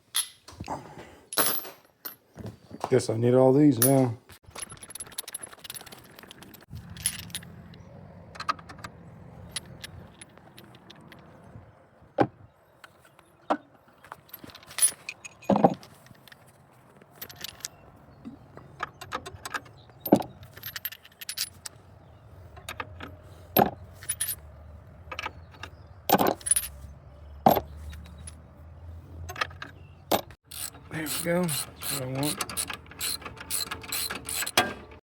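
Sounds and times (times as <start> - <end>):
metal wrenches clanking: 3.7 - 11.6, 14.0 - 28.4, 29.2 - 35.0.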